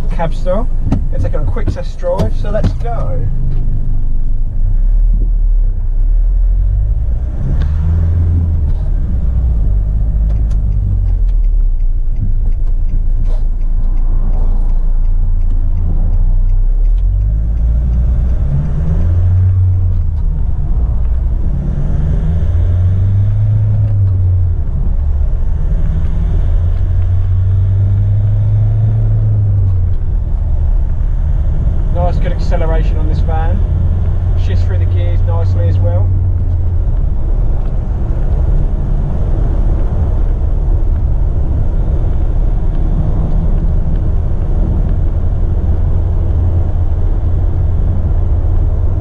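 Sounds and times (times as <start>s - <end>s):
diesel engine accelerating: 0.0s - 49.0s.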